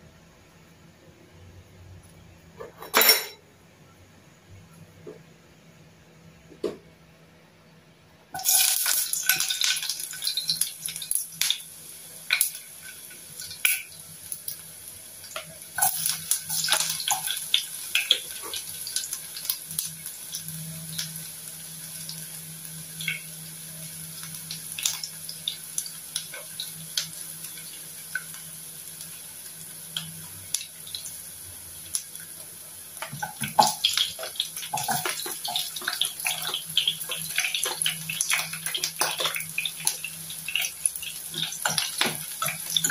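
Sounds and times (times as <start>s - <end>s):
garlic frying in hot oil: 8.3s - 42.9s
onions crackling in oil: 8.4s - 42.9s.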